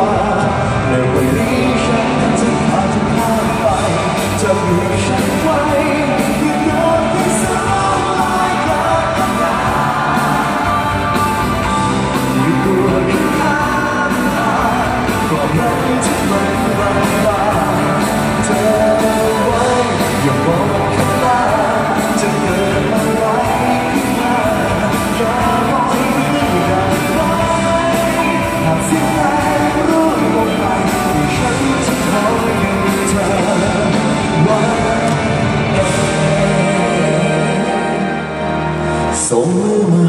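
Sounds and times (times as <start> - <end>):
drum kit: 0.0 - 38.6
live pop-rock band playing: 0.0 - 40.0
man singing into a microphone: 0.0 - 40.0.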